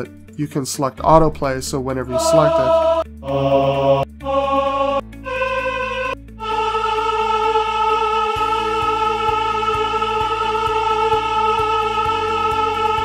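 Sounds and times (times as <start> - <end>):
men's choir singing sustained vowel: 1.1 - 13.0.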